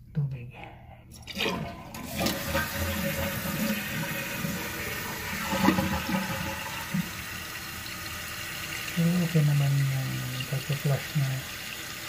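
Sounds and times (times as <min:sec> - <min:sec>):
toilet flushing: 0:01.2 - 0:12.0.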